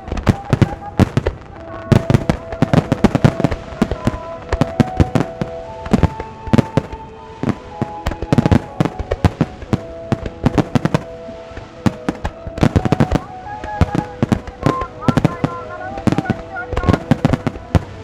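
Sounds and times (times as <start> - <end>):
firework shells bursting: 0.0 - 18.0
music with long held notes: 0.0 - 18.0.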